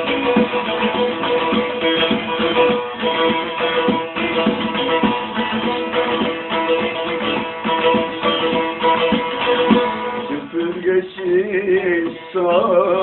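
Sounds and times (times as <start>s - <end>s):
rapidly picked string instrument: 0.0s - 13.0s
steady held tones: 0.0s - 13.0s.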